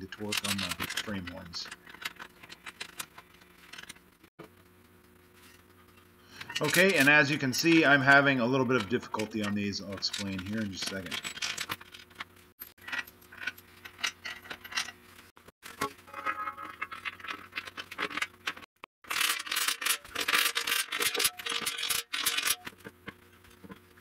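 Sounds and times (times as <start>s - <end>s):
metal bracket clinking and scraping: 0.0s - 4.0s, 6.4s - 15.0s, 15.7s - 22.8s.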